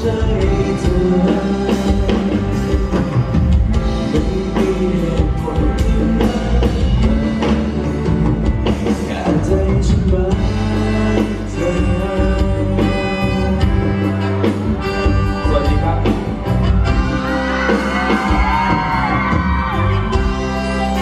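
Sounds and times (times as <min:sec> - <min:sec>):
live band playing pop music: 0:00.0 - 0:21.0
pitch-bending melody line: 0:00.0 - 0:21.0
steady bass: 0:00.0 - 0:21.0.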